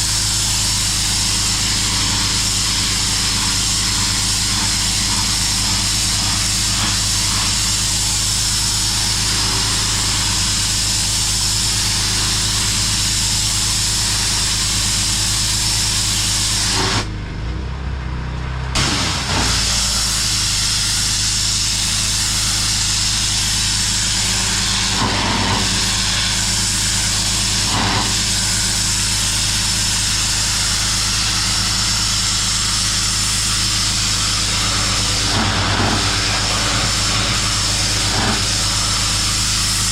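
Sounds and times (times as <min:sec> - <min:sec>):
water jet hissing on concrete: 0:00.0 - 0:17.1, 0:18.8 - 0:39.9
pressure washer motor hum: 0:00.0 - 0:17.3, 0:18.4 - 0:39.9.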